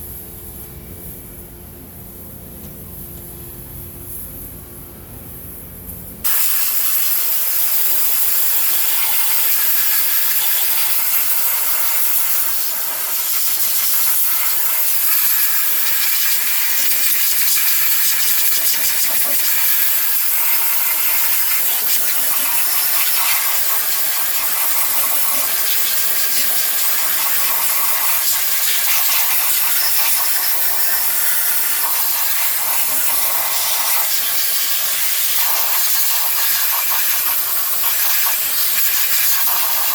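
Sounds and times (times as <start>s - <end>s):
high-pressure cleaning jet hissing: 6.2s - 39.9s.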